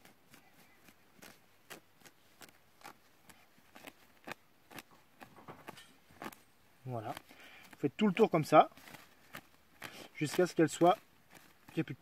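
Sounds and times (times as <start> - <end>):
feathers being pulled out: 0.0 - 12.0.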